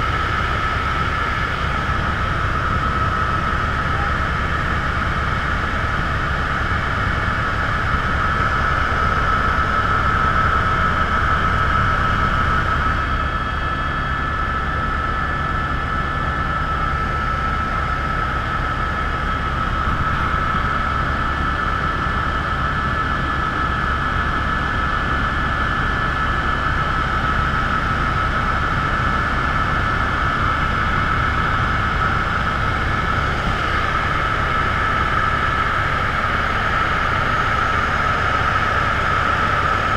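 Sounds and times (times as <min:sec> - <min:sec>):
constant high whine: 0:00.0 - 0:39.9
helicopter rotor and engine drone: 0:00.0 - 0:39.9.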